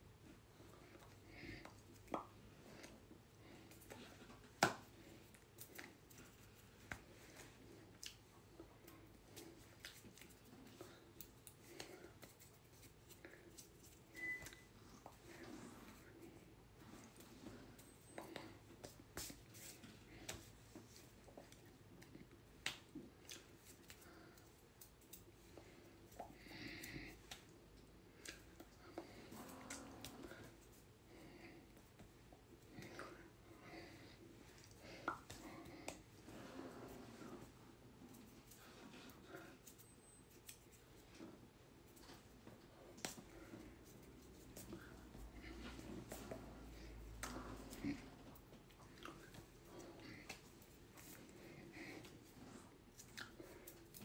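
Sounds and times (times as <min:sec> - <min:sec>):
faint clicks and rustles of signing: 0:00.5 - 0:54.0.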